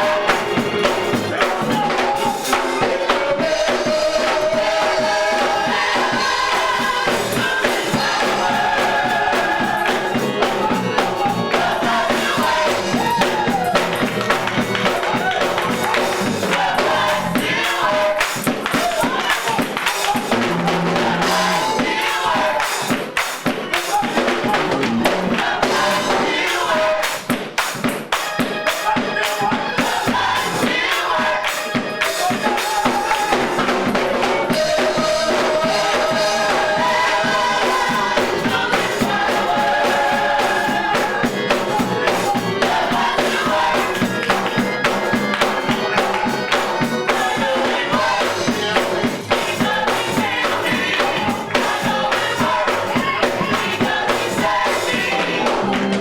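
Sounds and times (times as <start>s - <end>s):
drums: 0.0s - 56.0s
gospel choir singing: 0.0s - 56.0s.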